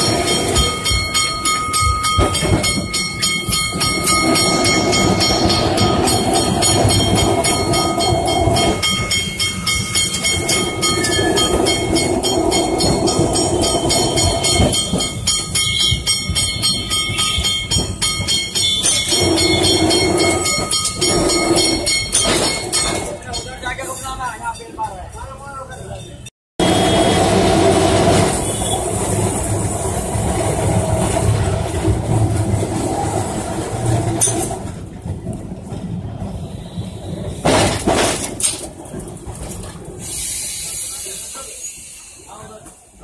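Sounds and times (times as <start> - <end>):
tram hum: 0.0 - 43.0
tram rattling on rails: 0.0 - 43.0.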